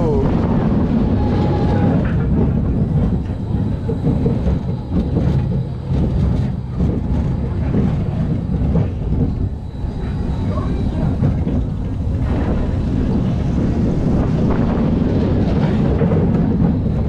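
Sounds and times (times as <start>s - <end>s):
coaster wheels rumbling on track: 0.0s - 17.0s.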